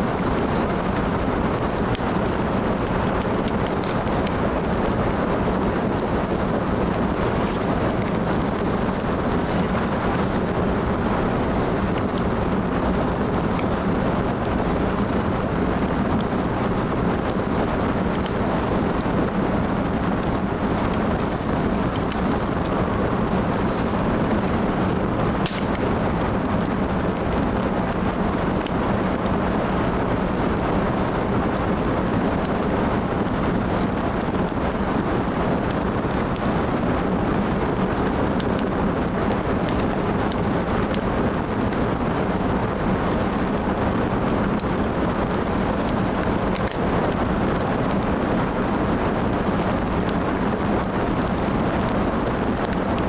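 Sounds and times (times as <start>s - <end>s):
firewood burning with crackles: 0.0s - 53.0s.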